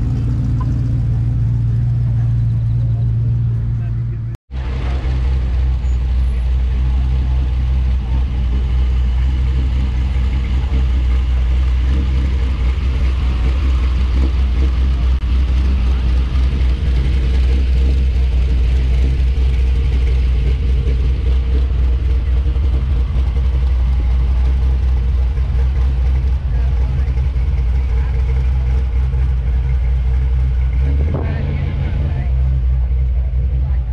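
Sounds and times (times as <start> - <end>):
car engine deep rumble: 0.0 - 33.9.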